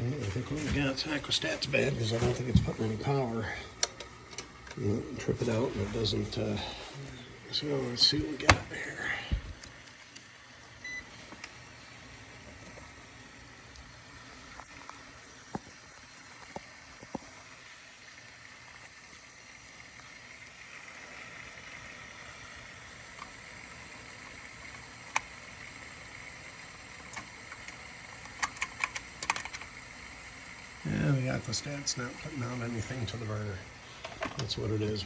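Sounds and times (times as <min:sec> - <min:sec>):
boiler room hum: 0:00.0 - 0:35.0.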